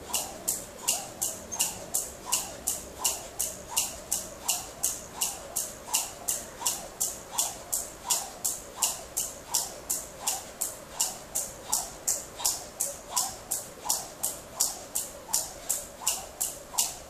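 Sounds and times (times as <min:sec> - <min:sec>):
jump rope slapping floor: 0:00.0 - 0:17.0.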